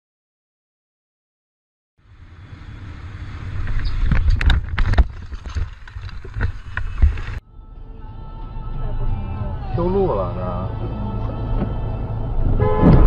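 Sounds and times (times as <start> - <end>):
road and wind rumble: 2.0 - 13.0.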